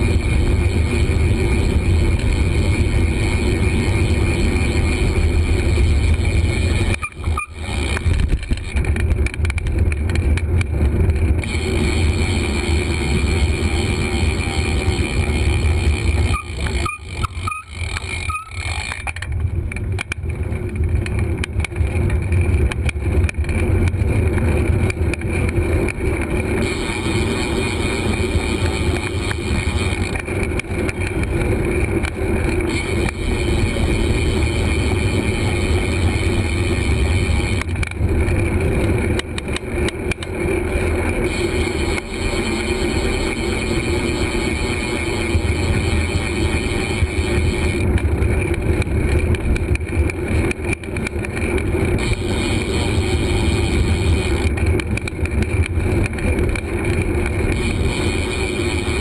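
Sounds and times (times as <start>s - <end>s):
bicycle road noise: 0.0s - 59.0s.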